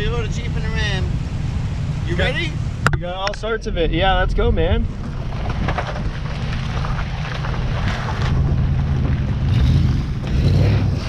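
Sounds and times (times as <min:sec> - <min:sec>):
engines idling: 0:00.0 - 0:11.0
wind rumbling on microphone: 0:00.0 - 0:11.0.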